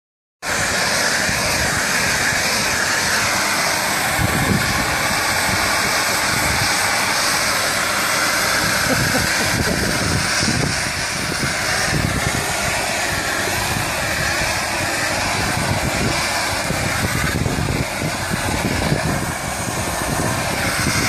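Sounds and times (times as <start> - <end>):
cutting torch hissing: 0.4 - 21.0.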